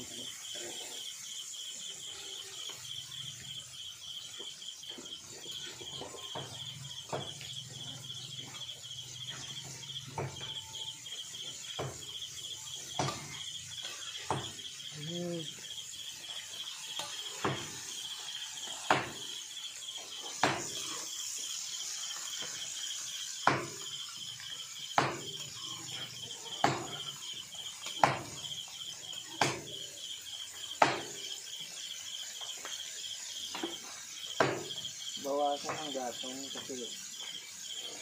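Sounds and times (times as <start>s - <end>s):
chicken sizzling in hot oil: 0.0s - 37.9s
insect pulsing trill: 0.0s - 38.0s.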